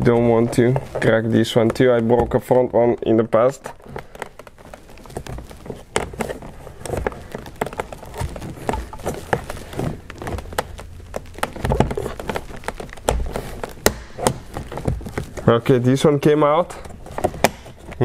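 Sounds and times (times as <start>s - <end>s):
plastic trim clicks and creaks: 0.0s - 18.0s.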